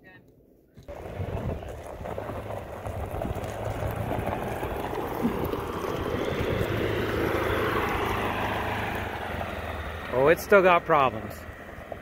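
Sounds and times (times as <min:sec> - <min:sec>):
utility vehicle engine running: 0:00.8 - 0:12.0.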